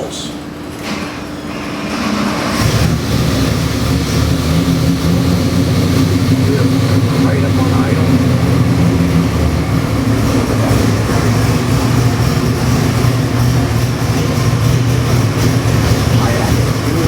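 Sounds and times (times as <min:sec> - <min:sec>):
car engine idling: 0:02.0 - 0:17.0.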